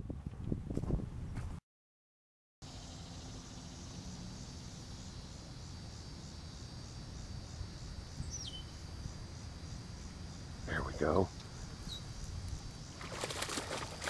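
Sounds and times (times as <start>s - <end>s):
insects trilling: 2.6s - 14.0s.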